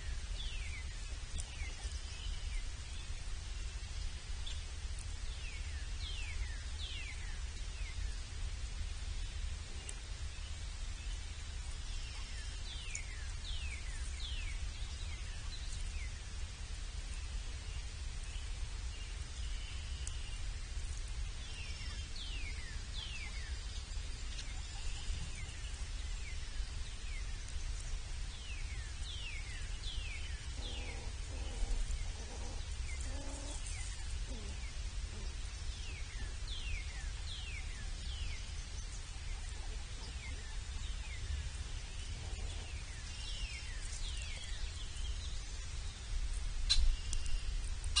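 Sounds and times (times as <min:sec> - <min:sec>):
birds peeping: 0:00.0 - 0:08.3, 0:09.0 - 0:48.0
steady low rumble: 0:00.0 - 0:48.0.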